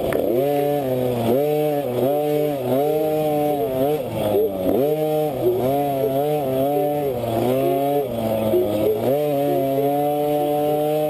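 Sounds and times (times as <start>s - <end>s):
two-stroke engine running hard: 0.0s - 11.0s.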